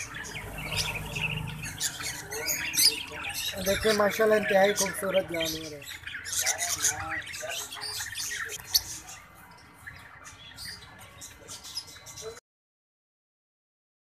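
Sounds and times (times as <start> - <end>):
lovebirds chirping and squawking: 0.0 - 12.4.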